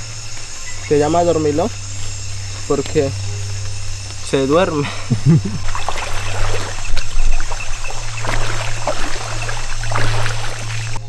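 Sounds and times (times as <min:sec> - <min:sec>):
insects droning: 0:00.0 - 0:11.0
water trickling and splashing: 0:00.0 - 0:11.0.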